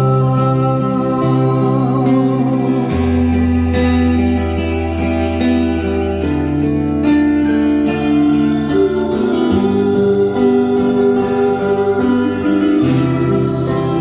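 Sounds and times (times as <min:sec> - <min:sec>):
guitar accompaniment: 0:00.0 - 0:14.0.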